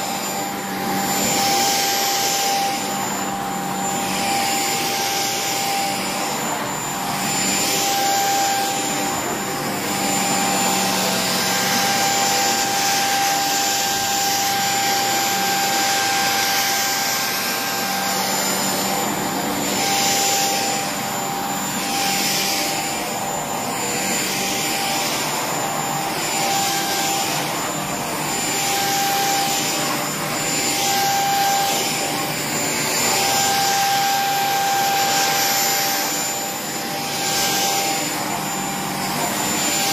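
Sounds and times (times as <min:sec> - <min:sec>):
vacuum motor whine: 0:00.0 - 0:39.9
vacuum suction and brush hiss: 0:00.0 - 0:39.9.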